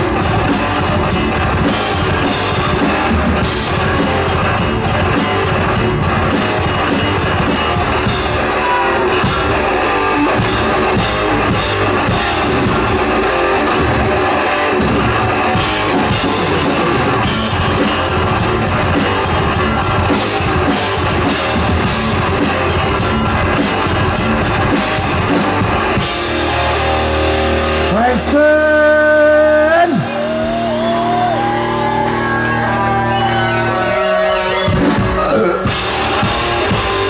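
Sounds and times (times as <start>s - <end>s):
metal band playing live: 0.0s - 37.0s.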